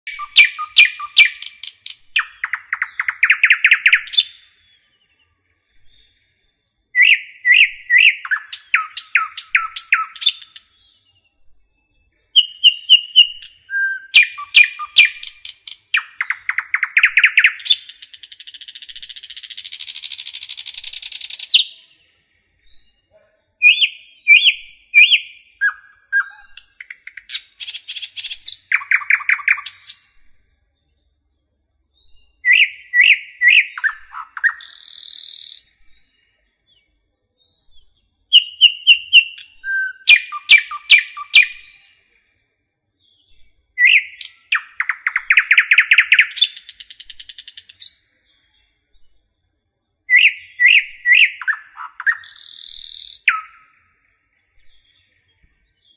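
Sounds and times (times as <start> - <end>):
bird chirping and trilling: 0.1 - 30.3, 31.0 - 55.9.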